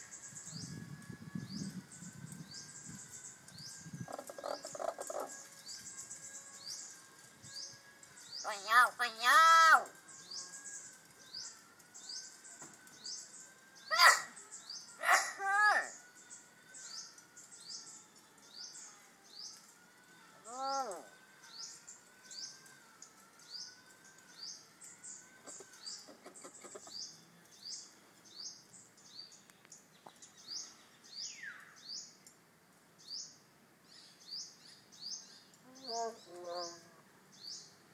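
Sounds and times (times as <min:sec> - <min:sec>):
birds calling: 0:01.5 - 0:19.7, 0:23.4 - 0:32.2, 0:34.0 - 0:37.8.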